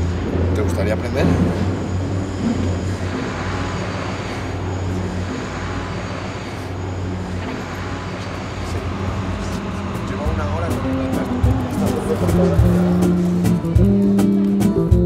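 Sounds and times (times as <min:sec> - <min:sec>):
low engine hum: 0:00.0 - 0:15.0
street noise: 0:00.0 - 0:15.0.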